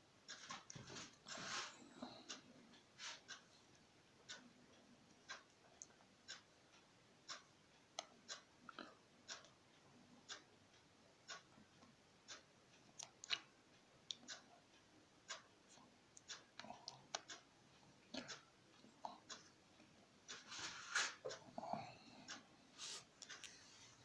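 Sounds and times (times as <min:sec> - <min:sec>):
faint ticking: 0:00.0 - 0:24.0
small irregular clicks: 0:00.2 - 0:24.0.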